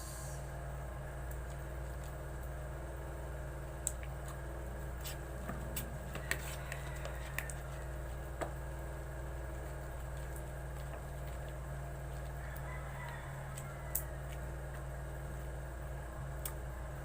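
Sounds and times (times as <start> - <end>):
generator humming: 0.0 - 17.0.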